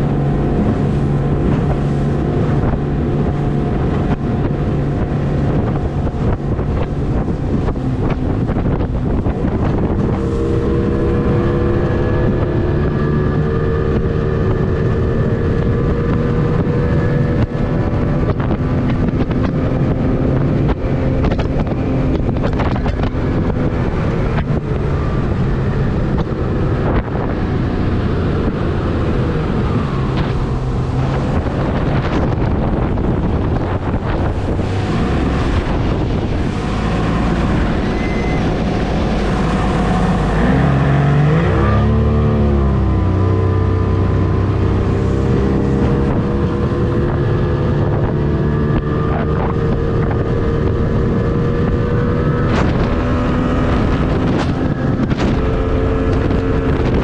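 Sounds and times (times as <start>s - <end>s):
outboard motor running at high speed: 0.0s - 57.0s
wind buffeting microphone: 0.0s - 57.0s.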